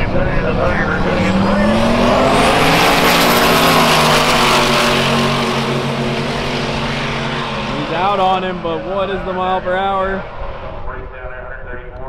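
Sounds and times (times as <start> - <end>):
drag cars accelerating: 0.0 - 12.0
high turbo whine: 0.0 - 12.0.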